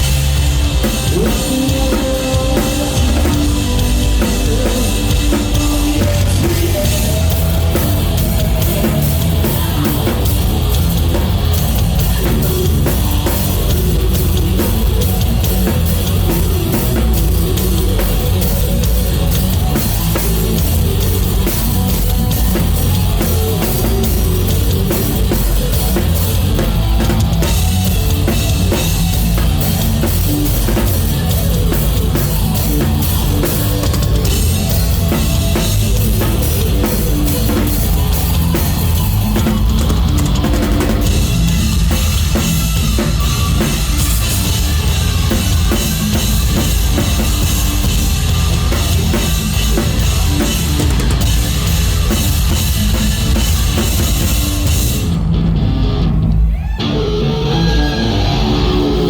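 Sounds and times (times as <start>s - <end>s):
drum kit beat: 0.0s - 55.4s
live rock band playing: 0.0s - 59.0s.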